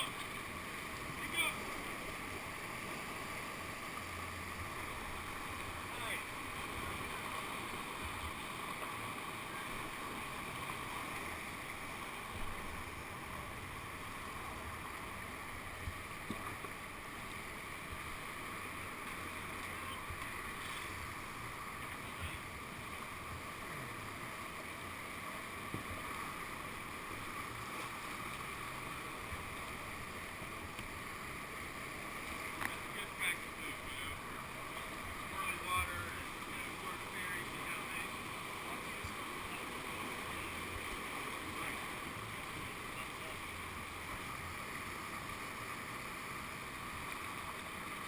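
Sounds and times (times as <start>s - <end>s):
whitewater rushing: 0.0s - 48.0s.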